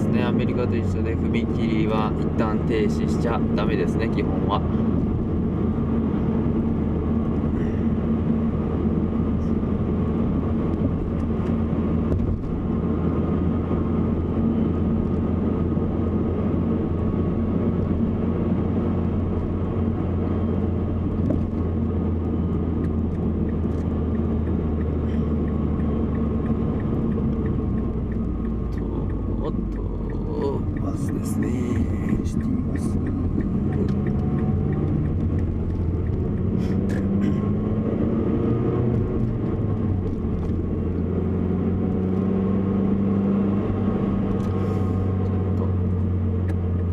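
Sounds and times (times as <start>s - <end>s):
car engine rumble: 0.0s - 46.9s
tyre and road noise: 0.0s - 46.9s.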